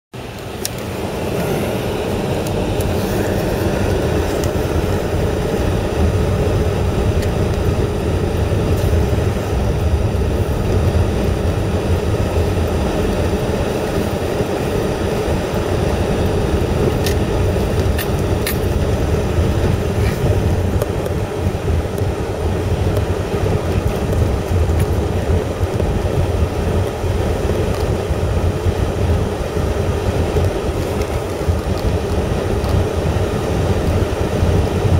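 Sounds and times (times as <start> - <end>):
car engine and tyre rumble: 0.1 - 34.9.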